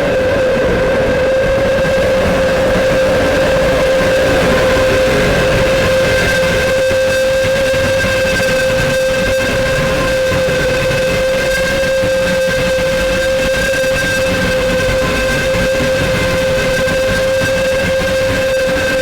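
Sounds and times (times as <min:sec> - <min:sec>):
whistle-like feedback drone: 0:00.0 - 0:19.0.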